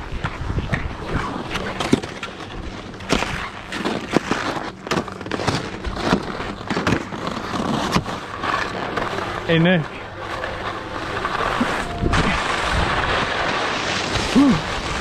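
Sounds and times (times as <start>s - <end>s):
skis scraping on snow: 0.3s - 15.0s.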